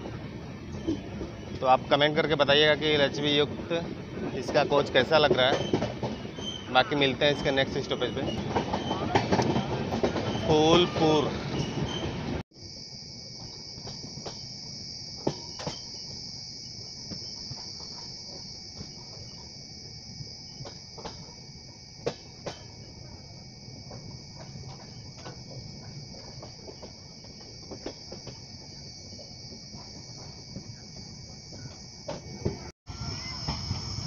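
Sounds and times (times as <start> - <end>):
insect chorus droning: 0.0 - 34.0.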